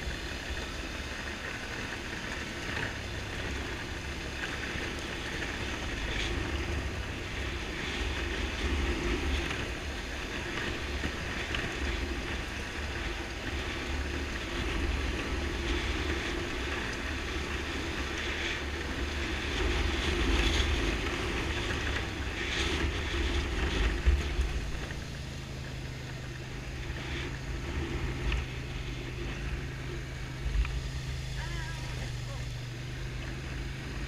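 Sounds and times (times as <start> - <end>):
quad bike engine running: 0.0 - 34.0
tyres over rocky gravel: 0.0 - 34.0.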